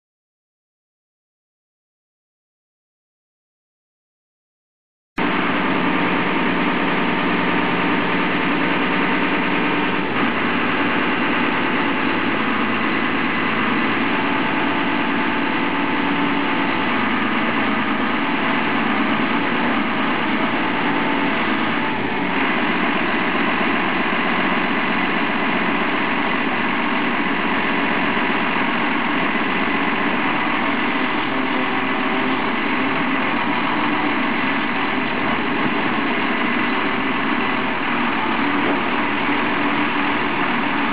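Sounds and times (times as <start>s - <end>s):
diesel engine running steadily: 5.2s - 40.9s.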